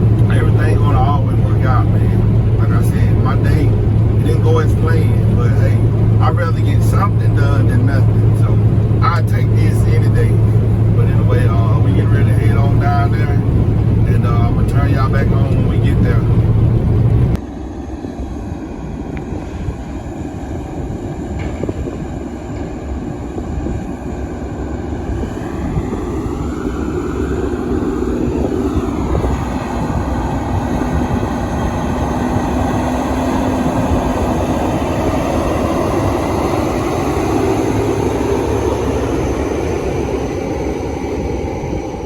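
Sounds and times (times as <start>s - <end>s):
truck engine: 0.0s - 17.4s, 20.4s - 42.0s
road noise: 0.0s - 42.0s.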